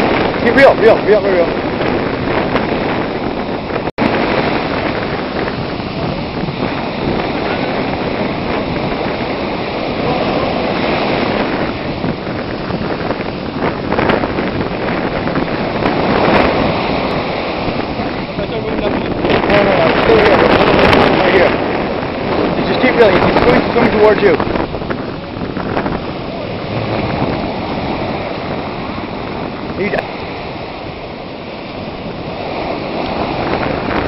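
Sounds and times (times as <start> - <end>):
surf washing ashore: 0.0 - 34.0
wind buffeting microphone: 0.0 - 34.0.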